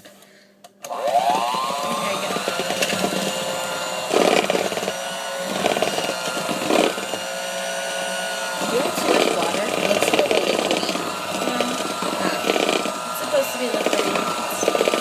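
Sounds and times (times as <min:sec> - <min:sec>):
electric mixer motor whine: 0:00.8 - 0:15.0
mixer clattering: 0:00.9 - 0:15.0.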